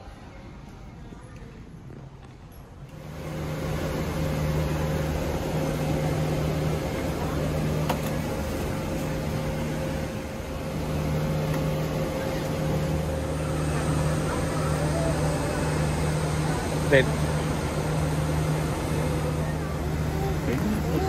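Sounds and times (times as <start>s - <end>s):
airliner cabin hum: 2.9s - 21.0s.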